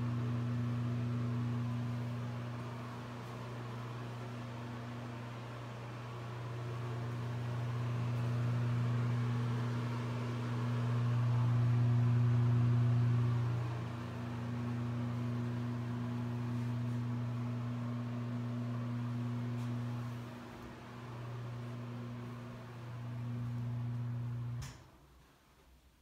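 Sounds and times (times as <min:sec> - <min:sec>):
ventilation fan humming: 0:00.0 - 0:25.2.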